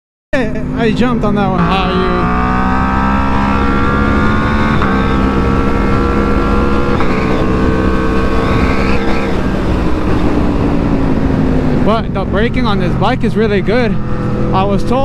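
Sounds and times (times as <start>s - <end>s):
low wind rumble: 0.4s - 15.0s
motorcycle engine running: 0.4s - 15.0s.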